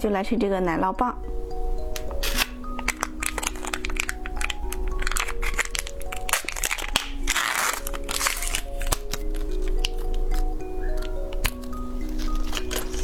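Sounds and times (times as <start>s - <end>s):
background music simple melody: 0.0s - 13.0s
plastic packaging crinkling: 1.8s - 13.0s.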